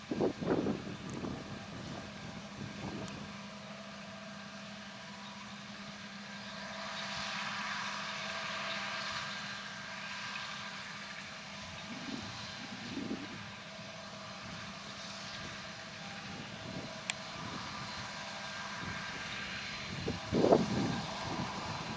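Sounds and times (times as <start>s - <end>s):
farm machinery engine hum: 0.0s - 21.9s.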